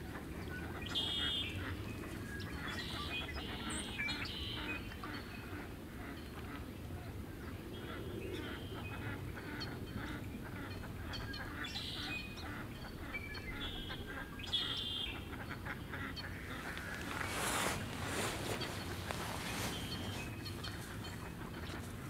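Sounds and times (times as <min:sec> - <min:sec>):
ducks calling: 0:00.1 - 0:06.7, 0:07.9 - 0:22.0.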